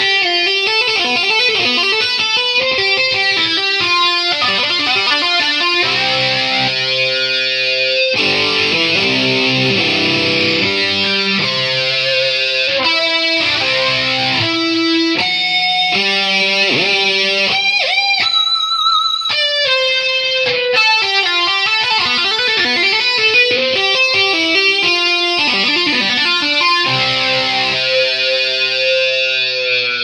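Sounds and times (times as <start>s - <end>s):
guitar melody: 0.0s - 30.0s.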